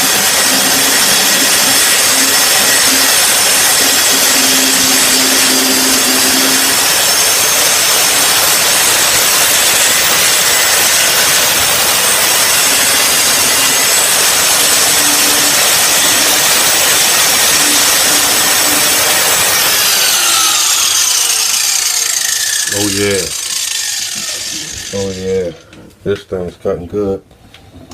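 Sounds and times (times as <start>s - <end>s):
motor winding down: 0.0s - 25.6s
angle grinder cutting steel: 0.0s - 25.7s.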